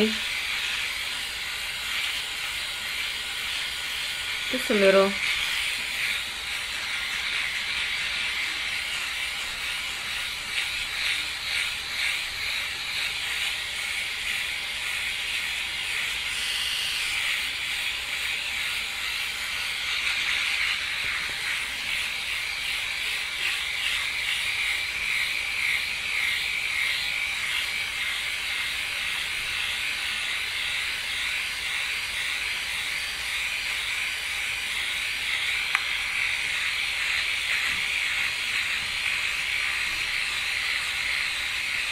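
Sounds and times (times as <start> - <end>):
electric shaver whirring: 0.0 - 41.9.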